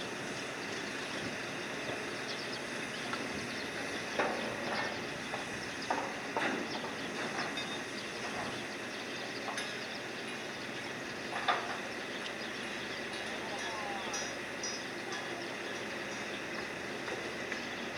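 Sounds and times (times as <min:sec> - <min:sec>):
wind: 0:00.0 - 0:17.9.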